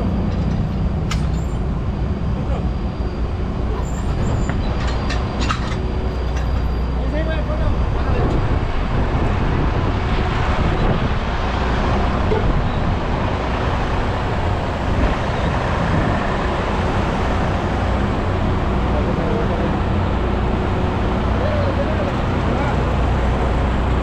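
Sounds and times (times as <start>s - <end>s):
diesel trucks idling: 0.0s - 24.0s.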